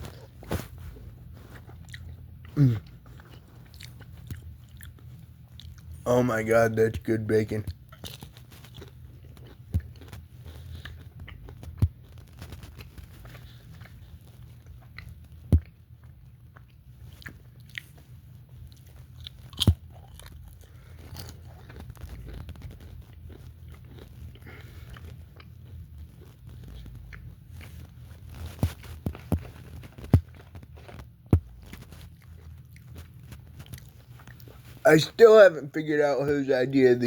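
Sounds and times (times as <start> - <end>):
chewing and crunching: 0.0 - 34.8
low steady hum: 0.0 - 37.0.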